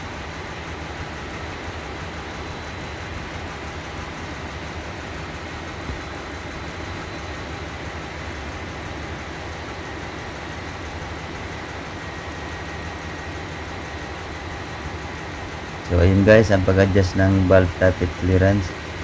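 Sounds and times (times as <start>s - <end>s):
engine room machinery drone: 0.0s - 19.0s.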